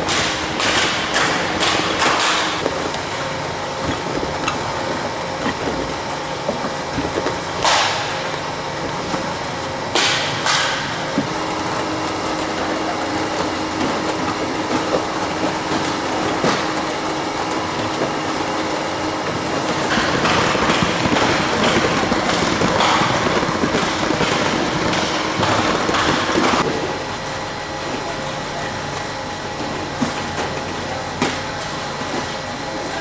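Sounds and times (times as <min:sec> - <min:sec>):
conveyor belts and motors running: 0:00.0 - 0:33.0.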